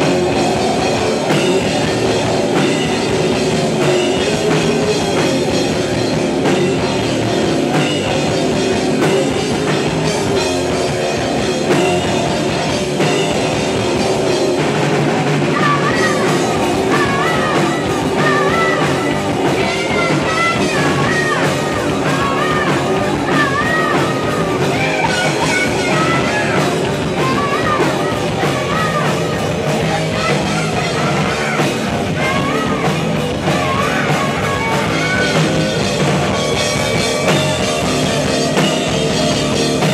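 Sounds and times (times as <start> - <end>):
bass guitar: 0.0 - 39.9
drum kit: 0.0 - 39.9
electric guitars: 0.0 - 39.9
high wavering lead guitar line: 0.0 - 39.9.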